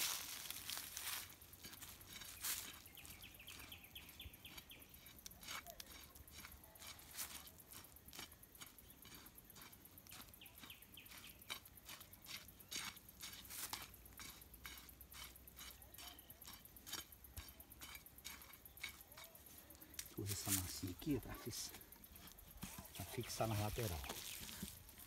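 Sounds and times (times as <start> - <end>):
digging tool scraping earth: 0.0 - 25.0.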